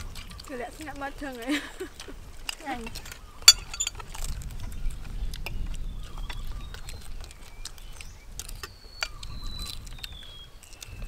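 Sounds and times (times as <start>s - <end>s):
people chewing and lip-smacking: 0.0s - 11.0s
wind rumble on microphone: 0.0s - 11.0s.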